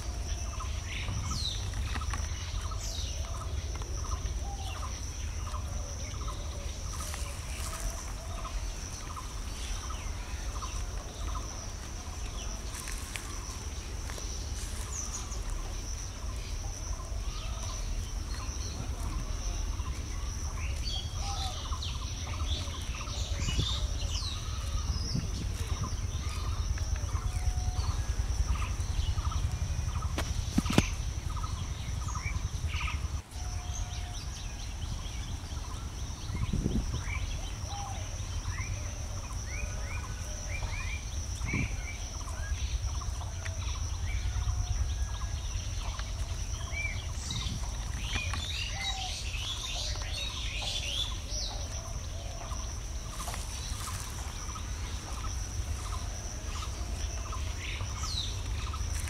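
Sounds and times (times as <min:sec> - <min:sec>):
low rumble: 0:00.0 - 0:48.6
birds calling and chirping: 0:00.0 - 0:59.0.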